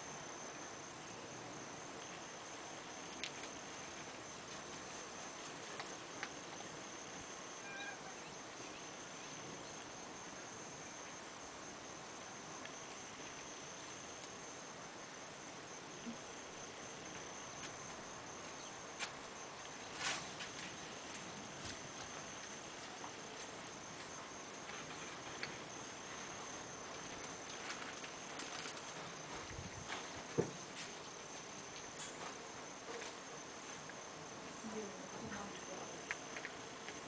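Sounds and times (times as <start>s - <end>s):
crickets trilling: 0.0s - 37.0s
faint outdoor hiss: 0.0s - 37.0s.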